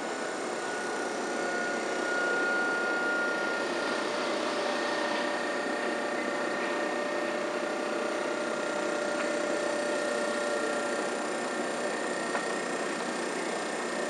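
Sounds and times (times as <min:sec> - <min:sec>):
high whine: 0:00.0 - 0:14.0
tram equipment mechanical whir: 0:00.0 - 0:14.0.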